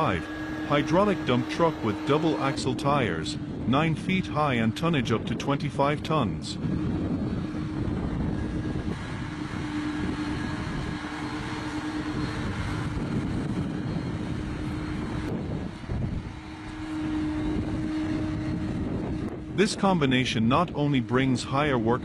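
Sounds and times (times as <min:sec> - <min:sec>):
tractor engine droning under load: 0:00.0 - 0:22.0.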